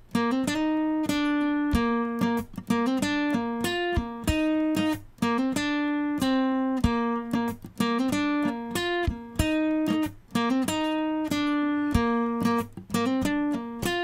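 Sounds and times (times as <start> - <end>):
acoustic guitar picking melody: 0.0 - 14.0.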